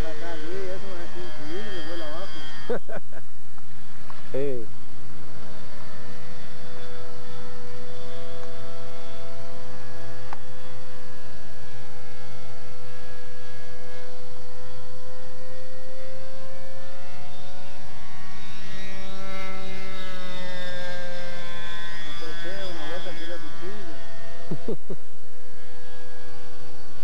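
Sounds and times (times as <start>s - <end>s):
model plane engine buzzing: 0.0s - 27.0s.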